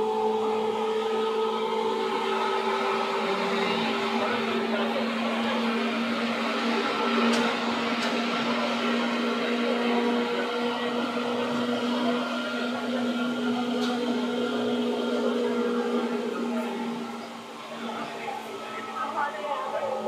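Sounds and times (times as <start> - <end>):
train motor hum: 0.0 - 20.0.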